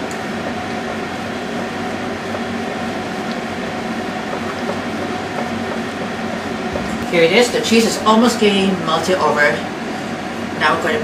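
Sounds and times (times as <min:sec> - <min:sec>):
machine hum with droning tones: 0:00.0 - 0:11.0.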